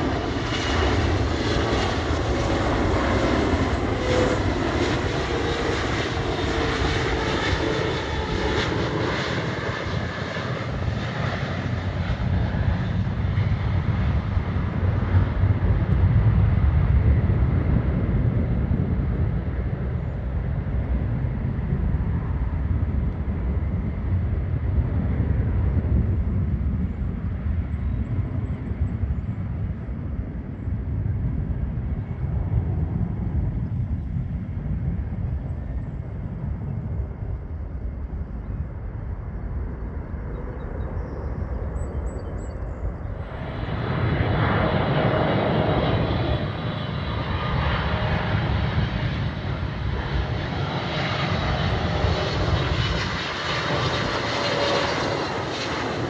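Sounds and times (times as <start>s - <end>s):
jet airliner engine whine: 0.0s - 56.0s
low rumble of distant aircraft: 0.0s - 56.0s.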